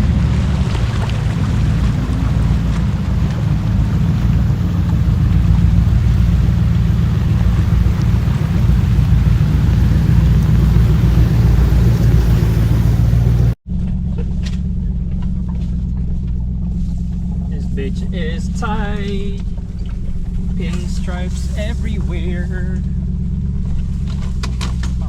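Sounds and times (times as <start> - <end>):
engine and drivetrain rumble: 0.0 - 25.0.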